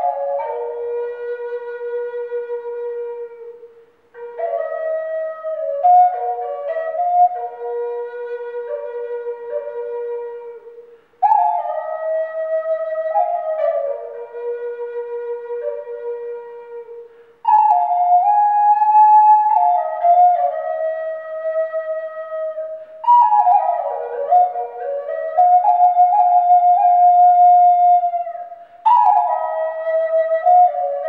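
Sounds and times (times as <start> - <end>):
flute playing slow melody: 0.0 - 31.0.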